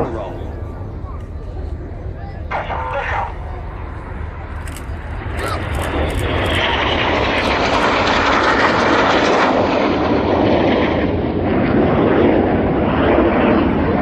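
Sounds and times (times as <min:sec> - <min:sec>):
jet aircraft roaring past: 0:00.0 - 0:14.0.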